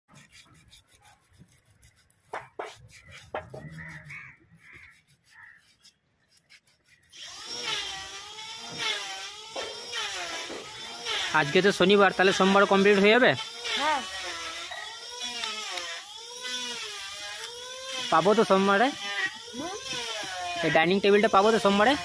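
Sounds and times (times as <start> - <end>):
sandpaper rubbing on wood: 0.1 - 22.0.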